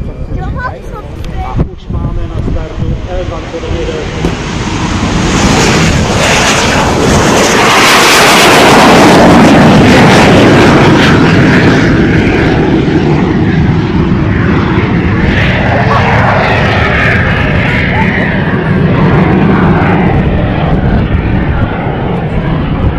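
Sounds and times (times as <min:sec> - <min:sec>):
jet flying past: 0:00.0 - 0:22.9.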